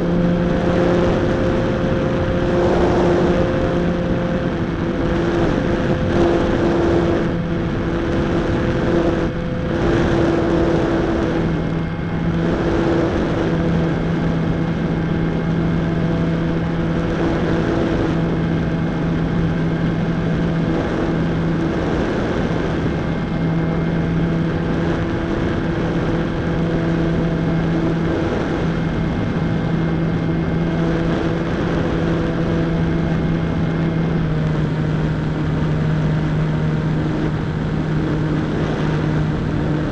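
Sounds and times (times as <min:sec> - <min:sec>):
model plane motor droning: 0:00.0 - 0:39.9
wind rushing over microphone: 0:00.0 - 0:39.9.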